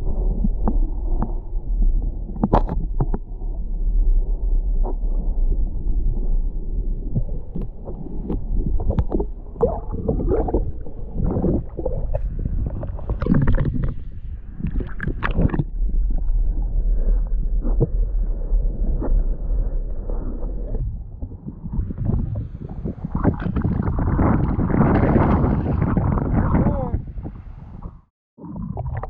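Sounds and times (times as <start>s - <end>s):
low underwater rumble: 0.0s - 29.0s
muffled water sloshing: 0.0s - 29.0s.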